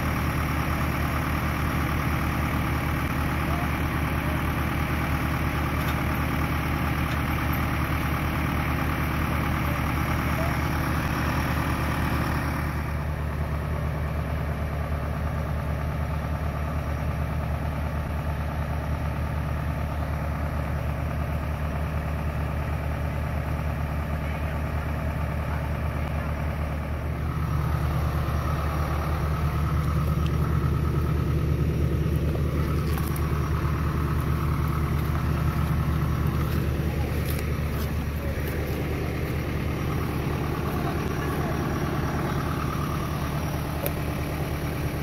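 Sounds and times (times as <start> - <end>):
tractor diesel engine idling: 0.0 - 45.0.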